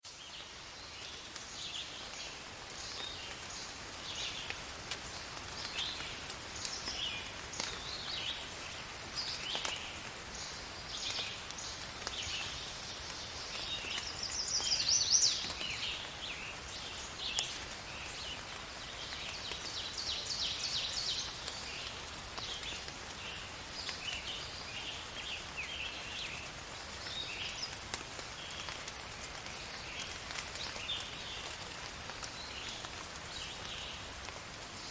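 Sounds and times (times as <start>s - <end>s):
light rain: 0.0s - 34.9s.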